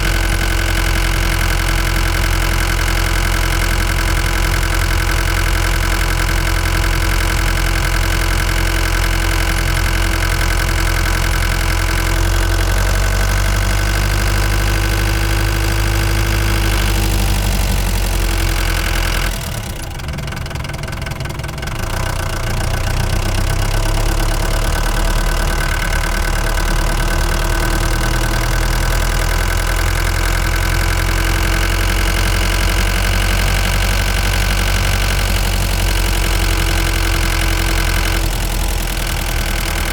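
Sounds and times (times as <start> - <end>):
van engine running while driving: 0.0 - 39.9.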